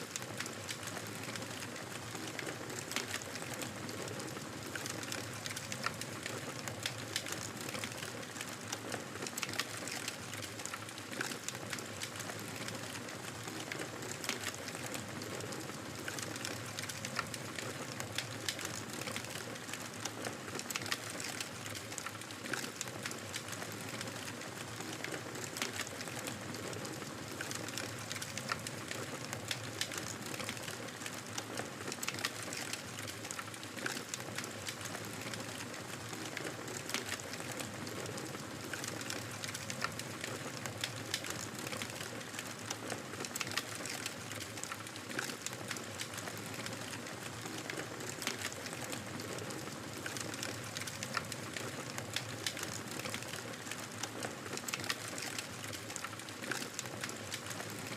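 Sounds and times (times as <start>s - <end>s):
fireplace fire crackling: 0.0s - 57.9s.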